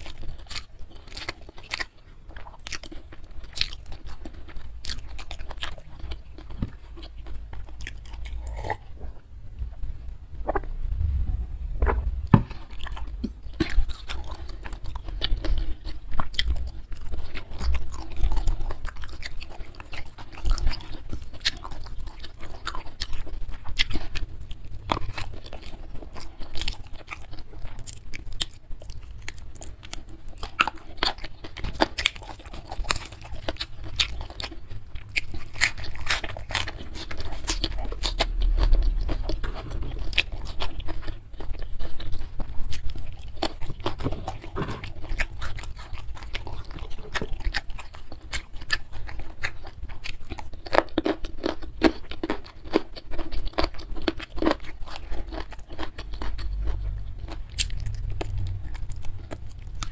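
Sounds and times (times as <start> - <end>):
chewing with sharp crunches: 0.0 - 59.9.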